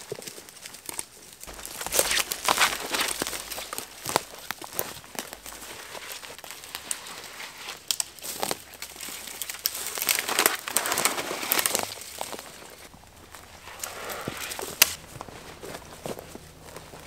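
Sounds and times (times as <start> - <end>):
branches rustling: 0.0 - 17.0
footsteps crunching through leaves: 0.0 - 17.0.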